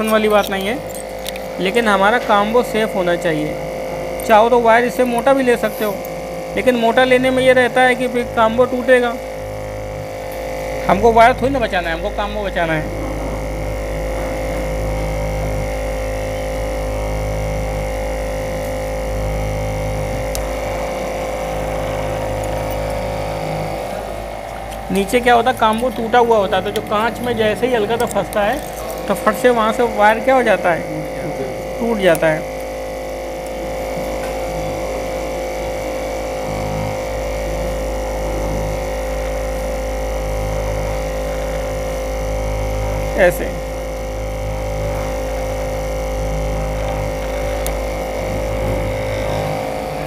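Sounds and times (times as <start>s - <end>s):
machine humming with tone: 0.0s - 50.0s.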